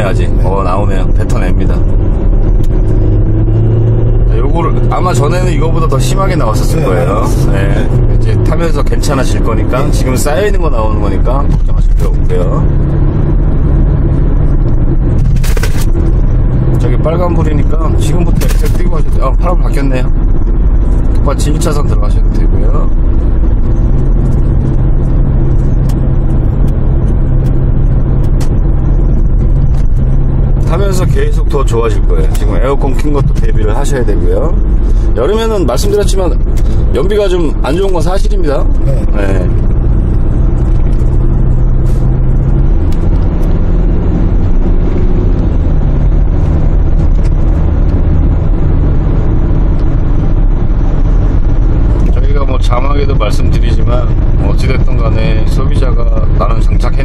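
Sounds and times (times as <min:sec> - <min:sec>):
car engine drone: 0:00.0 - 0:57.0
road noise inside car: 0:00.0 - 0:57.0.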